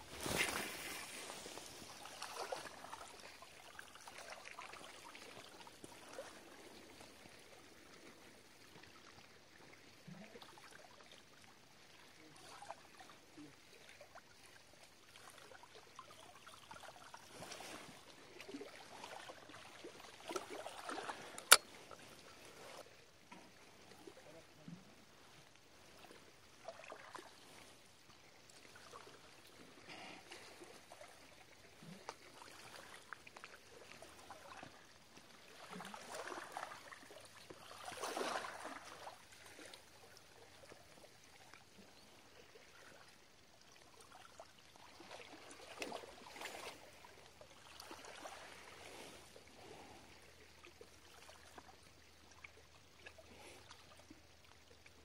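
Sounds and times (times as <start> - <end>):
small waves lapping on rocks: 0.0 - 55.0.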